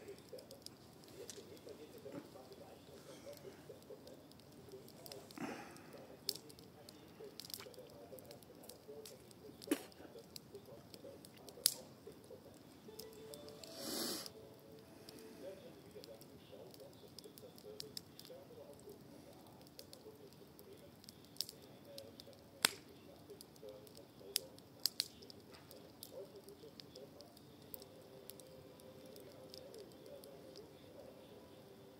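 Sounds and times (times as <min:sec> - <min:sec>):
campfire crackling and popping: 0:00.0 - 0:31.9.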